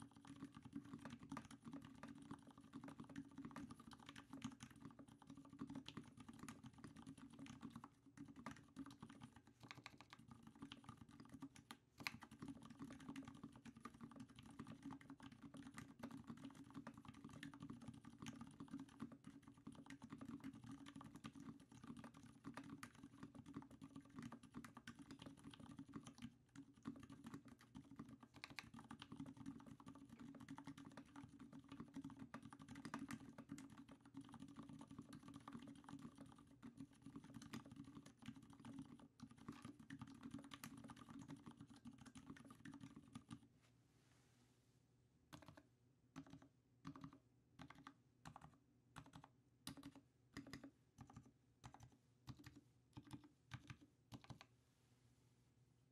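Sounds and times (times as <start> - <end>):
mechanical keyboard typing: 0.0 - 43.4, 45.3 - 54.5.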